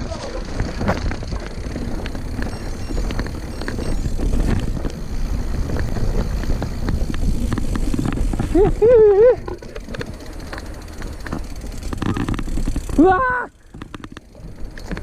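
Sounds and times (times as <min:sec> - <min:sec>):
bike tyres and frame rattling: 0:00.0 - 0:15.0
wind rumble on microphone: 0:00.0 - 0:15.0.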